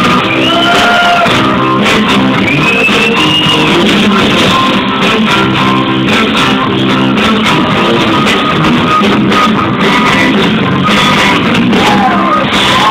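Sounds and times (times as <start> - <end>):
guitar chords strummed: 0.0 - 12.9
live rock band playing: 0.0 - 12.9.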